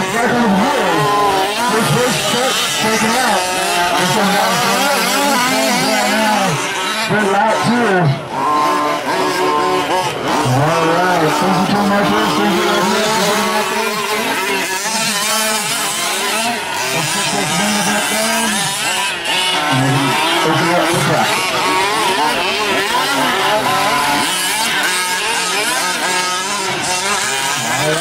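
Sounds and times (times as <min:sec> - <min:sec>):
small two-stroke engines revving: 0:00.0 - 0:28.0.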